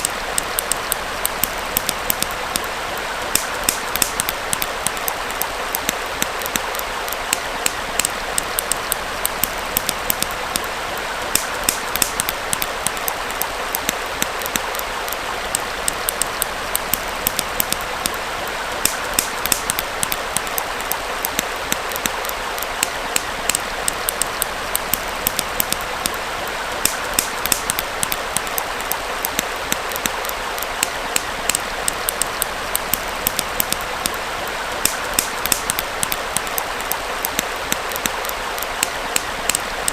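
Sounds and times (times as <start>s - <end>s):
campfire crackling and popping: 0.0s - 39.9s
small stream rushing: 0.0s - 39.9s.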